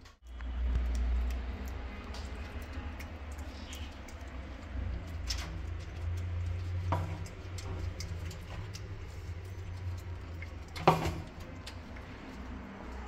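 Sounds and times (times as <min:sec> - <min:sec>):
light clicks and ticks: 0:00.0 - 0:13.0.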